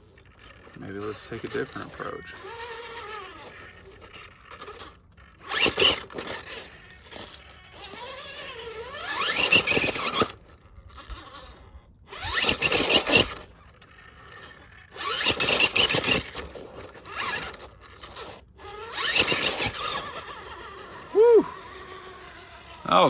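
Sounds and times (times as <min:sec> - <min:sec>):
electric motor and gears whining: 0:00.0 - 0:23.0
tyres scraping on rock: 0:00.0 - 0:23.0.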